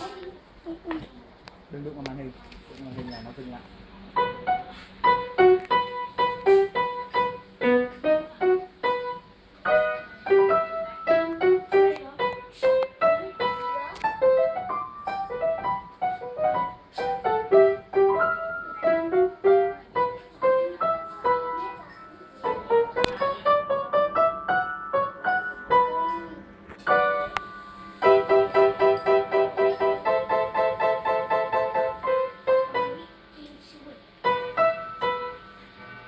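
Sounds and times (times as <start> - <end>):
piano melody: 3.9 - 33.4, 34.1 - 36.0.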